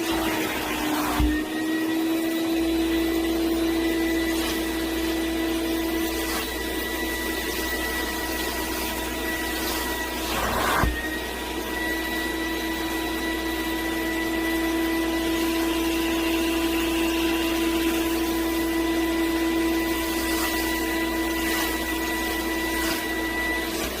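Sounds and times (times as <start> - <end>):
vacuum machine humming: 0.0 - 24.0.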